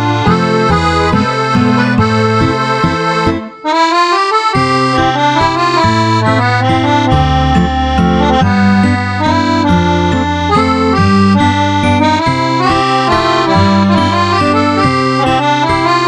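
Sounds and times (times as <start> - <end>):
instrumental background music: 0.0 - 16.0
rhythmic bass line: 0.0 - 16.0.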